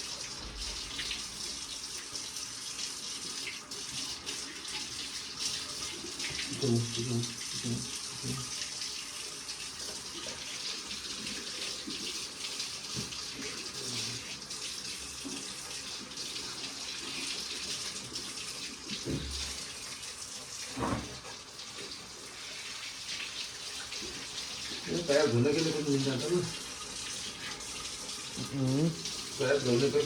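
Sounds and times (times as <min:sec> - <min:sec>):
running water hiss: 0:00.0 - 0:30.0.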